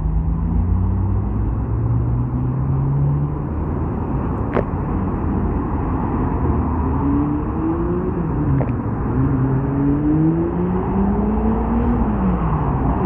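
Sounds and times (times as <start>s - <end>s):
cars driving past: 0.0s - 13.0s
steady traffic rumble: 0.0s - 13.0s.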